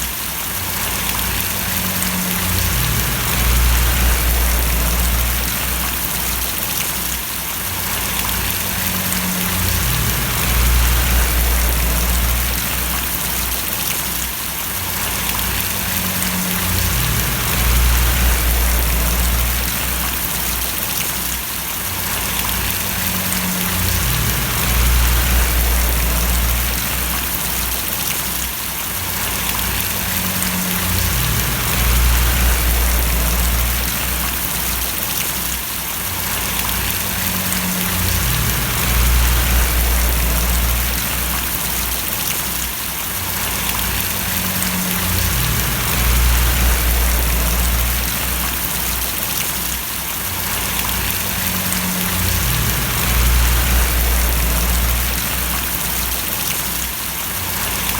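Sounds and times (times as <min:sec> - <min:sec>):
steady rain splashing: 0:00.0 - 0:57.9
deep rumble: 0:00.8 - 0:06.8, 0:07.8 - 0:14.0, 0:14.9 - 0:20.9, 0:22.0 - 0:28.2, 0:29.0 - 0:35.1, 0:36.2 - 0:42.4, 0:43.4 - 0:49.4, 0:50.4 - 0:56.5.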